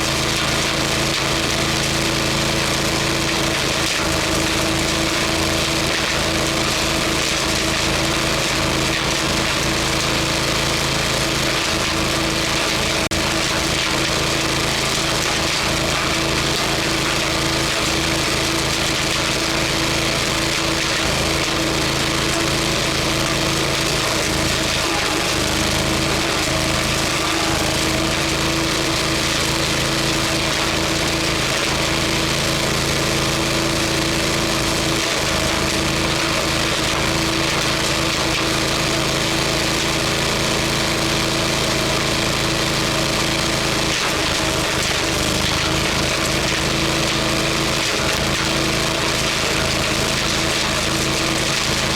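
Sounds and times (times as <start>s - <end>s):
wood chipper engine running: 0.0s - 51.9s.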